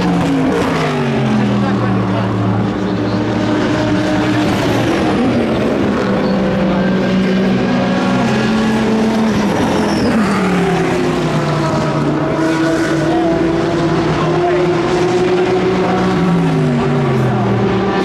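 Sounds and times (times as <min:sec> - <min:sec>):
racing car engines revving: 0:00.0 - 0:18.0.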